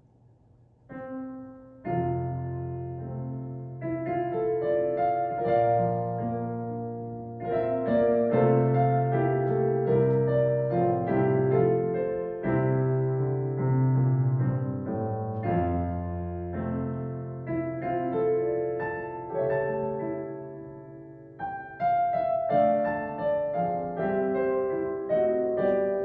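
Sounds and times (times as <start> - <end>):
slow piano piece: 0.0 - 26.0.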